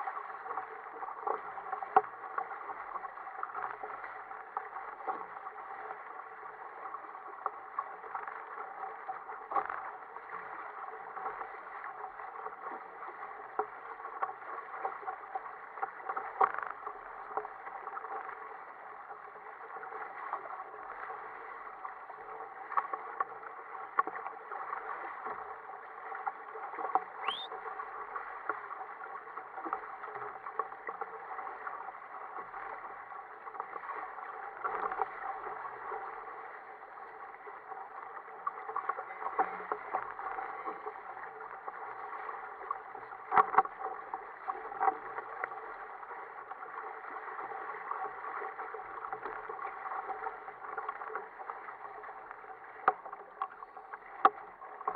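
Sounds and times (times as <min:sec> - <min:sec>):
water slapping against a hull: 0:00.0 - 0:54.9.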